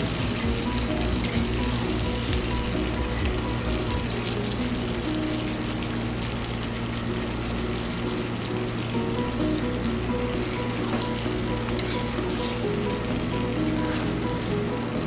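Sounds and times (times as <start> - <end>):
background music: 0.0 - 15.0
meat sizzling in oil: 0.0 - 15.0
metal spatula stirring: 0.0 - 15.0.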